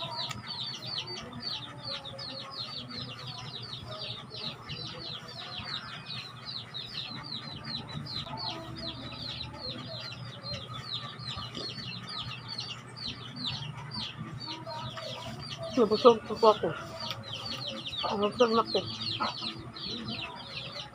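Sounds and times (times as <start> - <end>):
chicks peeping: 0.0 - 20.9.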